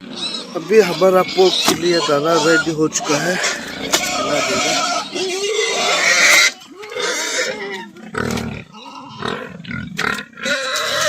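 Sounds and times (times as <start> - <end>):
pigs grunting: 0.0 - 11.0
pigs squealing: 0.0 - 11.0.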